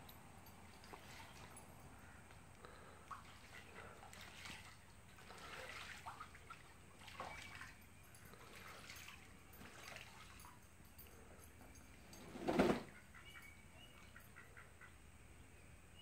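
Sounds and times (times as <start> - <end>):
pool water trickling and lapping: 0.0 - 15.7.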